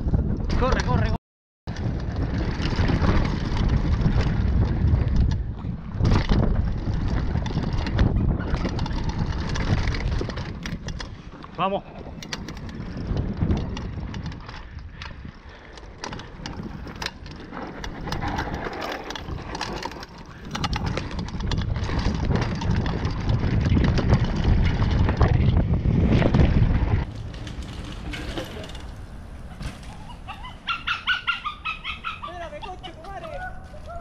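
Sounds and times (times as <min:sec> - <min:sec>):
bike tyre rumble on dirt: 0:00.0 - 0:30.9
bike rattling over bumps: 0:00.0 - 0:34.0.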